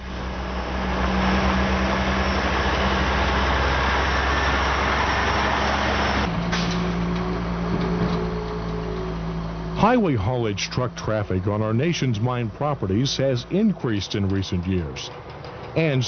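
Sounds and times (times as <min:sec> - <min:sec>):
diesel truck engine: 0:00.0 - 0:16.0
tyres on gravel road: 0:00.0 - 0:16.0.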